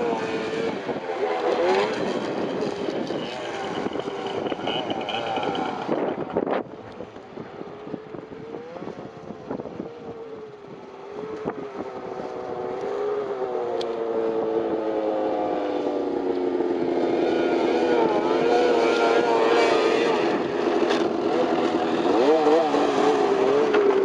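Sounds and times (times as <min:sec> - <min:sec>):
snowmobile engine under throttle: 0:00.0 - 0:24.0.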